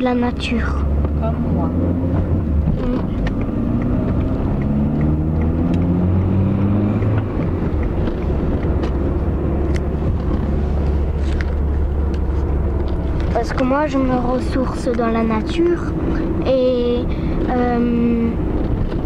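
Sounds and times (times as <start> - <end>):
car engine: 0.0 - 19.0
road noise inside car: 0.0 - 19.0.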